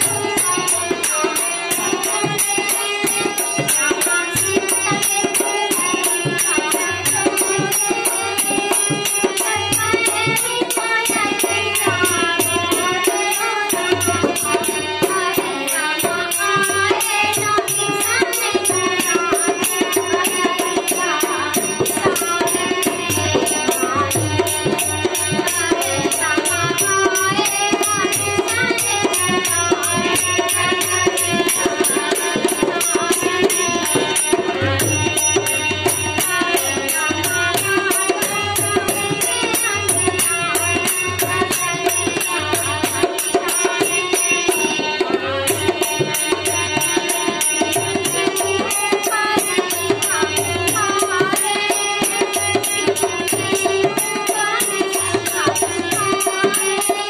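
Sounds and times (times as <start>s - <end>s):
fast rattling percussion beat: 0.0s - 57.0s
harmonium chords: 0.0s - 57.0s.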